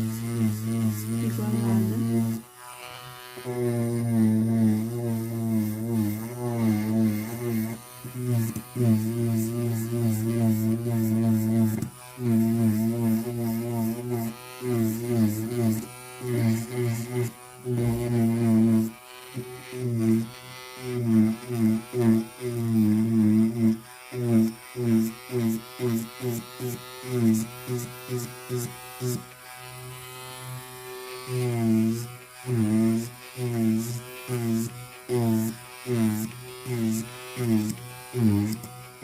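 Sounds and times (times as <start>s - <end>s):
electric nail drill grinding: 0.0s - 39.0s.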